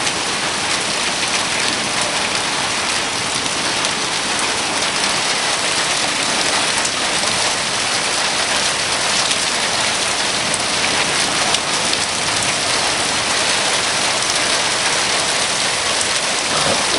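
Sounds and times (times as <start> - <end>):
heavy rain downpour: 0.0 - 16.9.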